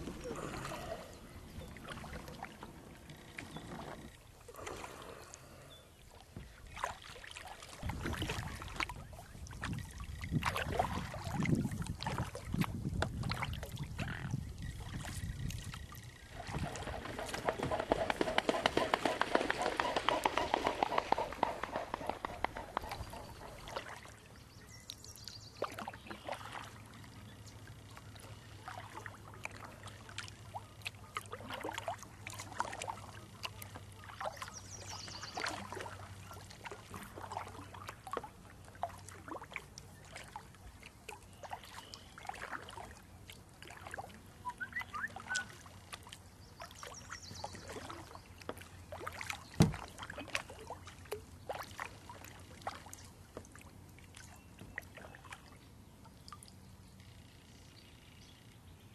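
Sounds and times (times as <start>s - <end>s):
kayak paddle splashing water: 0.0s - 24.4s, 25.2s - 56.6s.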